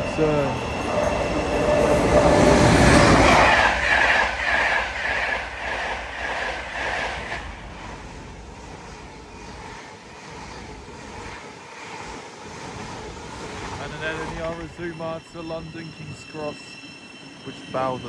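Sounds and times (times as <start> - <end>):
wheels clacking over rail joints: 0.0 - 16.5
train rushing past: 0.0 - 18.0.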